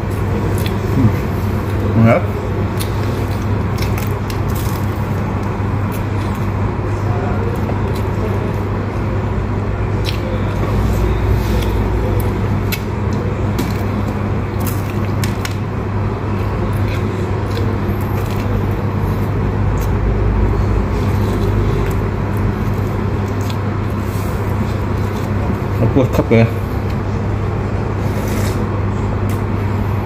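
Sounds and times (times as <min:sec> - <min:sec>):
person chewing bread: 0:00.0 - 0:25.8
loud low background hum: 0:00.0 - 0:30.0.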